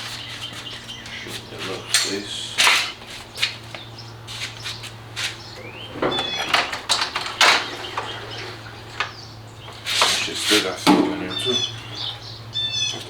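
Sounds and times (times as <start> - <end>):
motorcycle parts knocking and scraping: 0.0 - 13.0.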